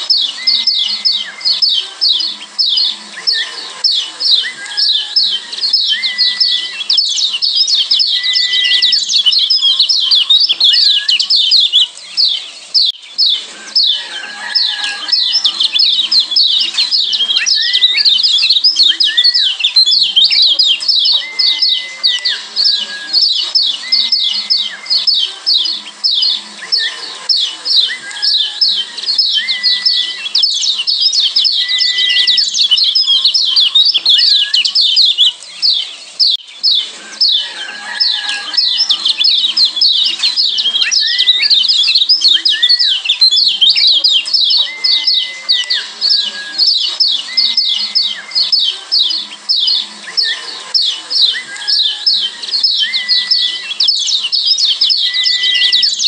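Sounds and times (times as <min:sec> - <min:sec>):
bird chattering calls: 0:00.0 - 0:56.0.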